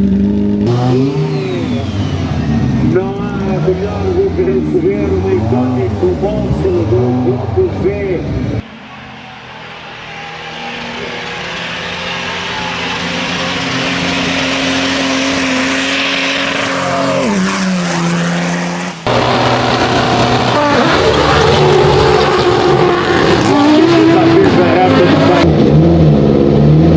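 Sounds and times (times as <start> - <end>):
race car engine at high revs: 0.0 - 26.9
race car engine revving: 0.0 - 26.9.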